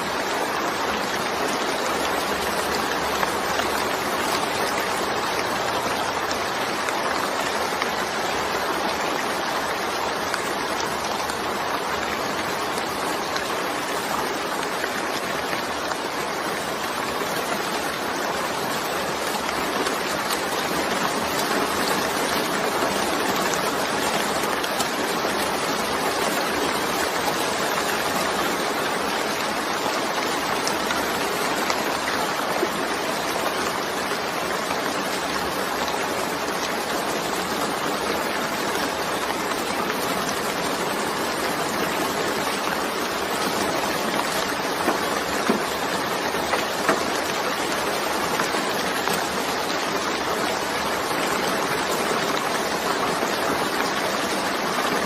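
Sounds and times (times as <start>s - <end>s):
steady rainfall hissing: 0.0s - 55.0s.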